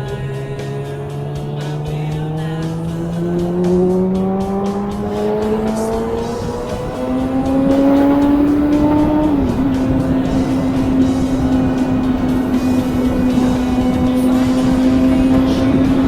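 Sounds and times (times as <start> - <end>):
motorcycle engine accelerating: 0.0 - 16.0
wind rushing over microphone: 0.0 - 16.0.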